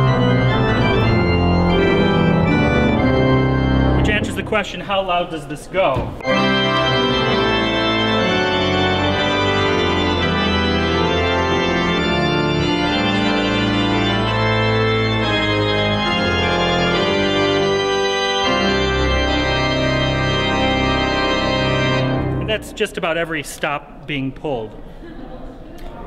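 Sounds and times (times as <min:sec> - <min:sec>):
pipe organ playing loud chords: 0:00.0 - 0:05.5, 0:06.2 - 0:24.0.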